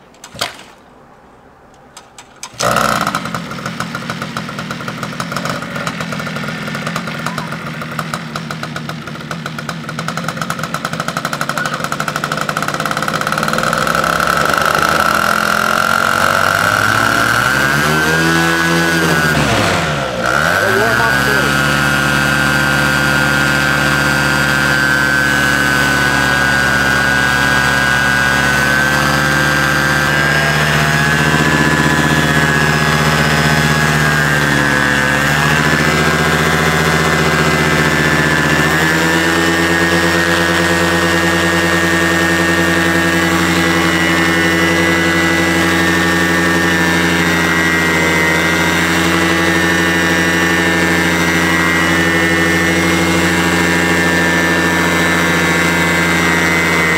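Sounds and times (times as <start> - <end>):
paramotor engine and propeller running: 2.4 - 56.9.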